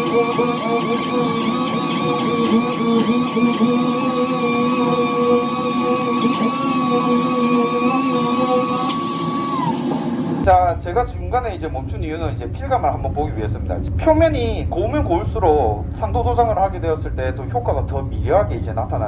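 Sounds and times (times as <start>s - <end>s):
dust extractor running: 0.0s - 19.0s
sander whine: 0.0s - 19.0s.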